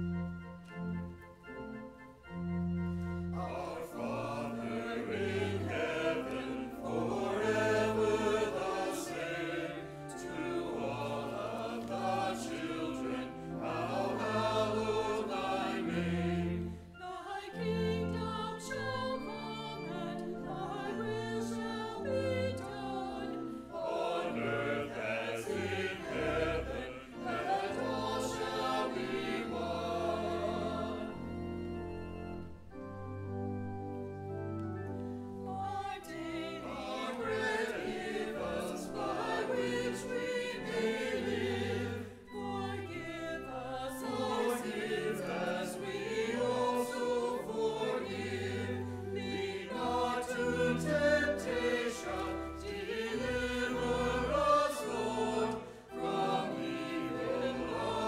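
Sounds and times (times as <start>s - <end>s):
choir singing: 0.0s - 58.0s
organ accompaniment: 0.0s - 58.0s.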